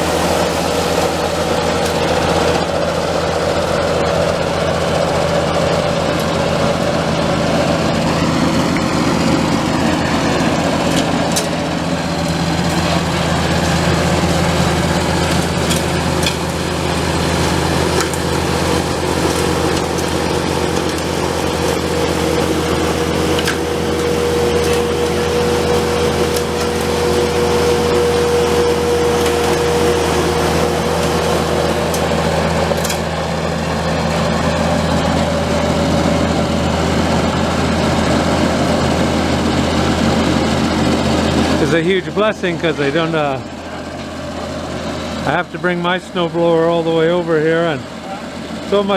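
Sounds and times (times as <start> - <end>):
high steady whine: 0.0 - 48.9
tractor engine running: 0.0 - 48.9.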